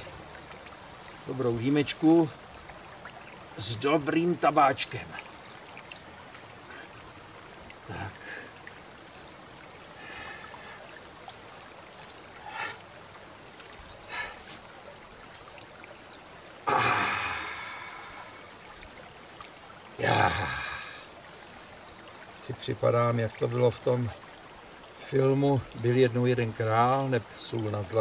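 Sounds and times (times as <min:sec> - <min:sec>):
brook running over stones: 0:00.0 - 0:28.0.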